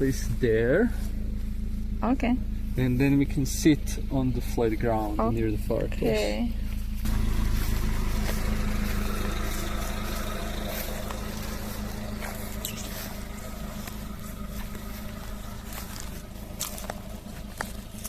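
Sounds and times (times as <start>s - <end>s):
small petrol engine running: 0.0s - 18.0s.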